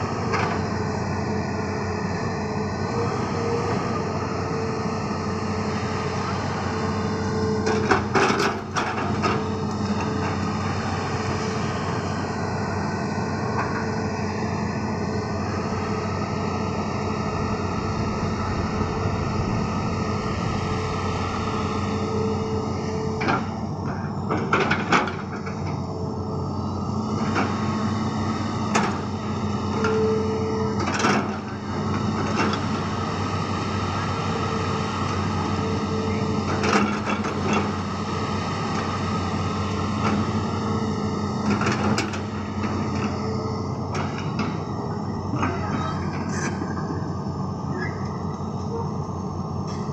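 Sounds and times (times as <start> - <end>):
excavator diesel engine under load: 0.0 - 49.9.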